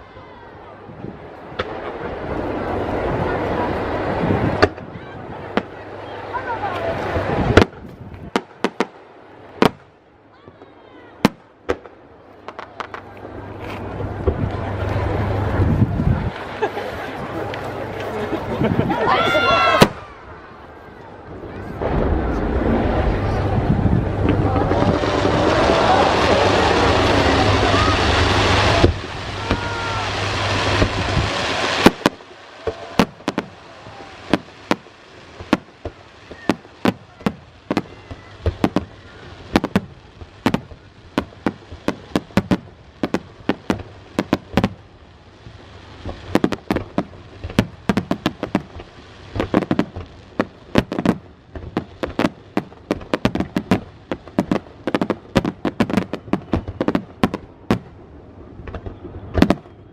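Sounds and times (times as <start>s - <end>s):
fireworks cracking and banging: 0.9s - 59.9s.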